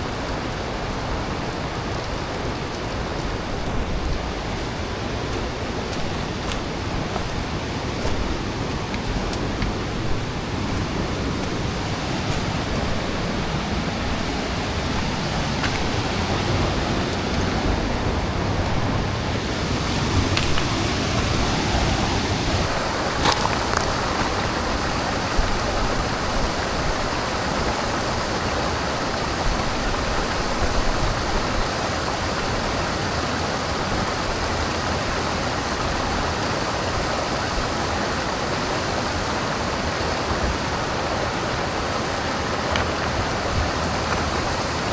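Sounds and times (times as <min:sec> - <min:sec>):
rushing river water: 0:00.0 - 0:44.9.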